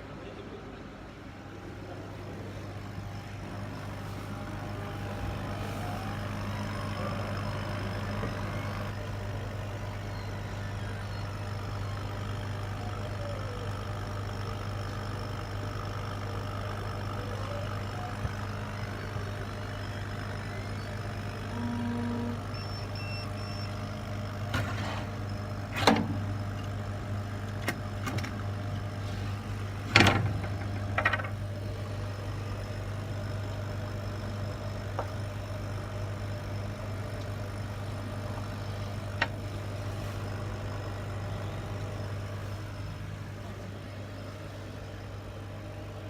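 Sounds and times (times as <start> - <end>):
laser cutter mains hum: 0.0 - 46.0.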